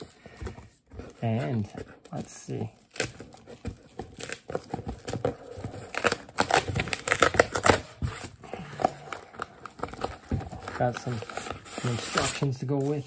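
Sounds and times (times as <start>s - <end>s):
cardboard box handled and opened: 0.0s - 13.0s.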